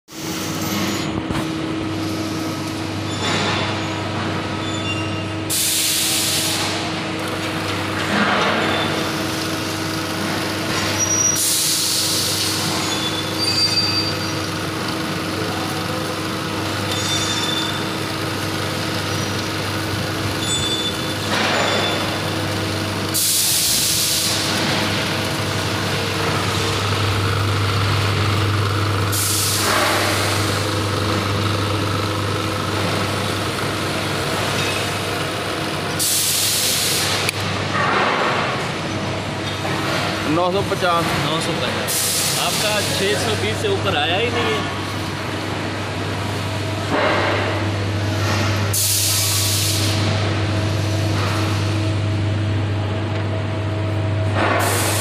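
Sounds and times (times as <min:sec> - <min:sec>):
compression testing machine humming: 0:00.1 - 0:37.7, 0:38.3 - 0:55.0.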